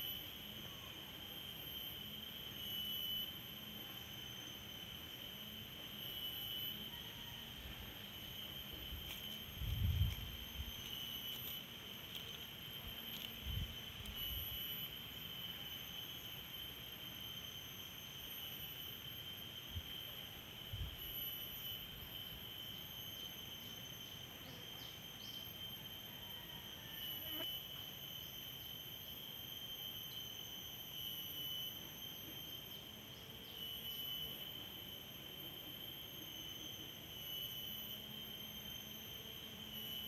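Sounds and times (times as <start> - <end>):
high insect trill: 0.0 - 40.0
insect chorus: 0.0 - 40.0.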